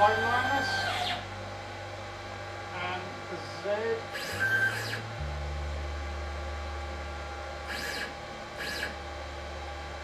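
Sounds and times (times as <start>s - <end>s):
stepper motor droning: 0.0s - 10.0s.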